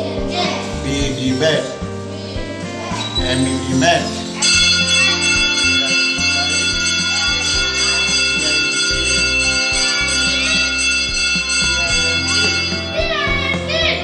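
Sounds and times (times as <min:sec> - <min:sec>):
bell-like tones: 0:00.0 - 0:14.0
low bass line: 0:00.0 - 0:14.0.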